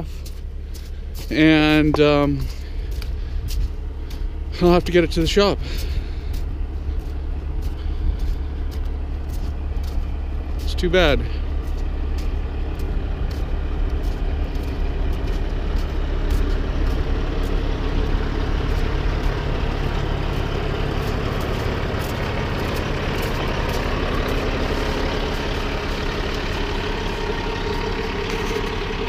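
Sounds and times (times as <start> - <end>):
heavy truck engine idling: 0.0 - 29.0.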